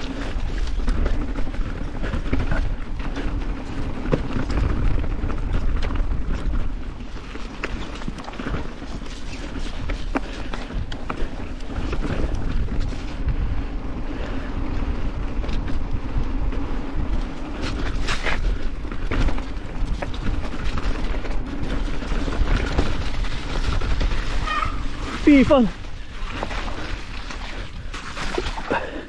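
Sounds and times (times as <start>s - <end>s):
bike clicks and knocks: 0.0s - 13.6s, 15.1s - 25.1s
bike tyre and trail noise: 0.0s - 29.0s
wind on microphone: 0.0s - 29.0s.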